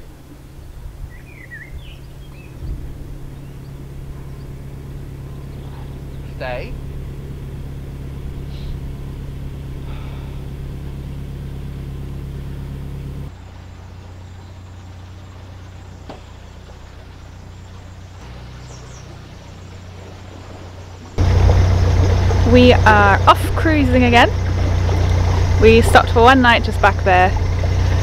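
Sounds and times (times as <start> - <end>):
boat diesel engine humming: 0.0 - 28.0.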